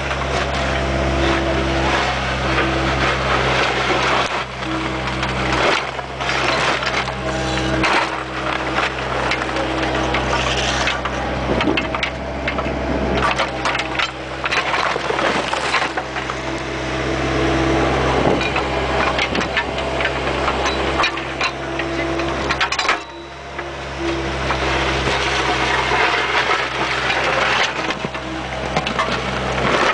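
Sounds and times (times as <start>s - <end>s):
bucket clattering and scraping: 0.0s - 16.9s, 18.0s - 29.9s
mini excavator running: 0.0s - 29.9s.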